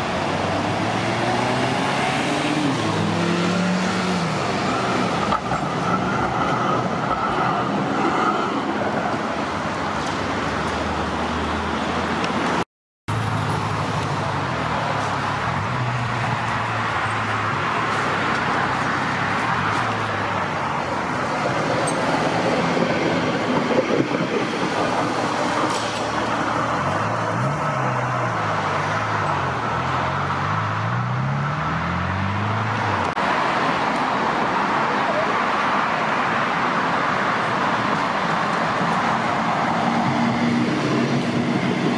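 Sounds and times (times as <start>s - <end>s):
traffic passing on busy road: 0.0s - 41.9s.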